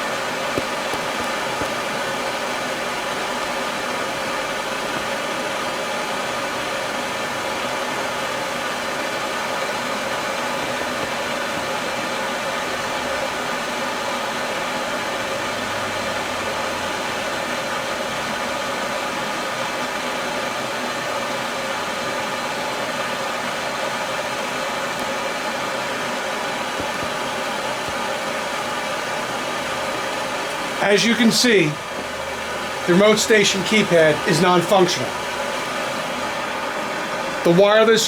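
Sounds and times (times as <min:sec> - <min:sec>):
heating tool hissing: 0:00.0 - 0:19.9, 0:22.2 - 0:38.0.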